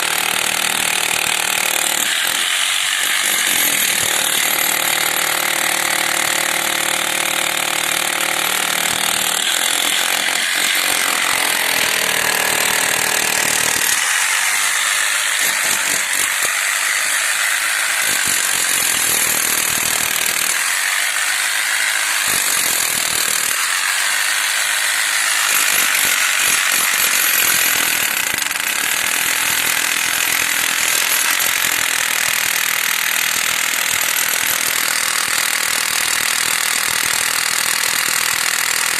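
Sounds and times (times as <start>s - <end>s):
demolition hammer breaking concrete: 0.0s - 38.9s.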